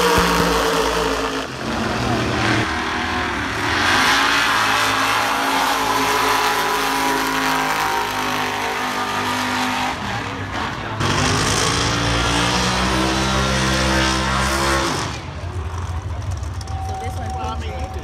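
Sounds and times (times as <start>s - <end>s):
race car engines at full throttle: 0.0s - 18.0s.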